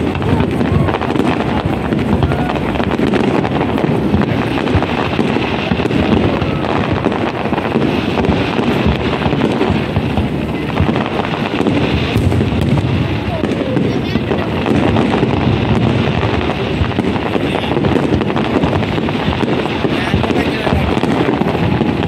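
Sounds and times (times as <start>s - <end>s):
fireworks bangs and crackles: 0.0s - 22.0s
wind noise on microphone: 0.0s - 22.0s.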